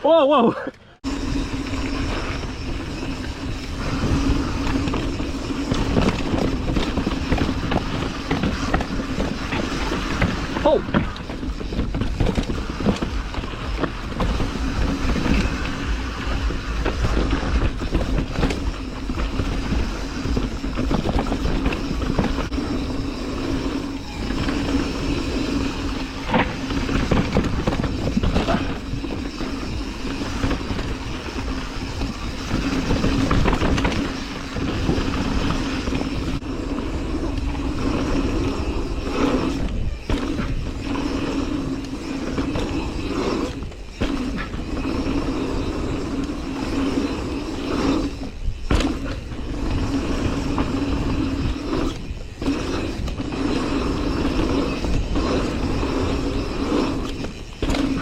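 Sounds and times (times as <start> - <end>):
bike tyres rolling on dirt: 0.0 - 58.0
bike knocking and rattling: 0.6 - 58.0.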